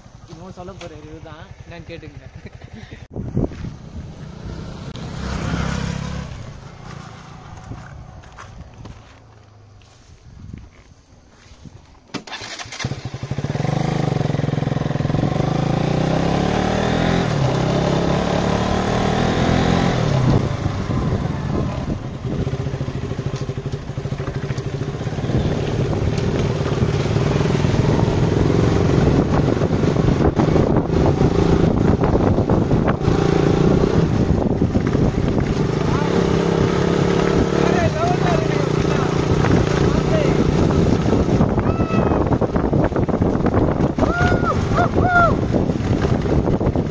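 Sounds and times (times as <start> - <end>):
motorcycle engine revving: 1.5 - 9.0, 12.2 - 46.9.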